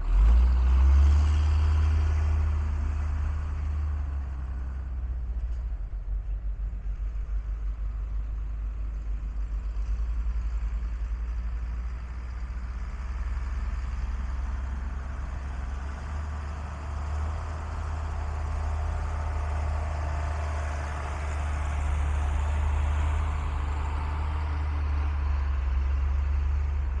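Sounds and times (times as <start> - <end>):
truck engine drone: 0.0 - 27.0.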